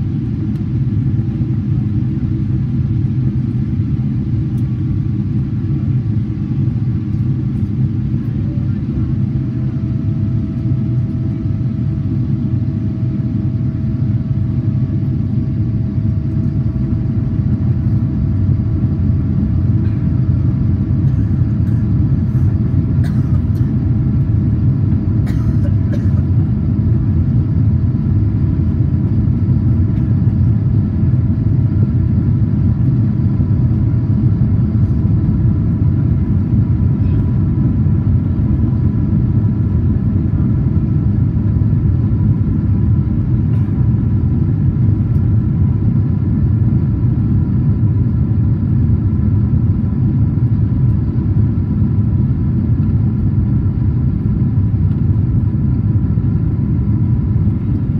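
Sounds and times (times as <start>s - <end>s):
airplane cabin roar: 0.0s - 57.9s
faint steady whine: 0.0s - 57.9s.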